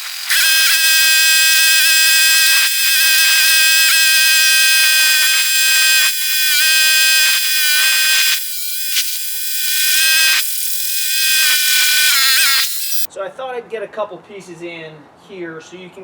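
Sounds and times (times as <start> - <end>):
electric power tool motor whining: 0.0 - 13.1.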